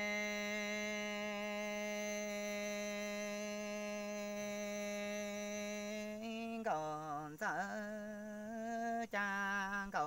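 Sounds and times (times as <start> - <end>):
person singing long note: 0.0 - 8.3.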